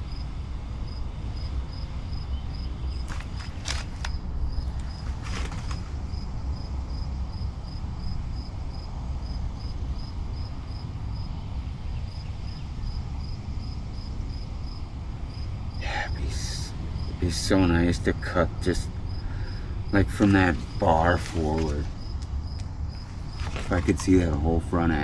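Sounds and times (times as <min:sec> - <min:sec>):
continuous low rumble: 0:00.0 - 0:25.0
insect chirping: 0:00.0 - 0:25.0.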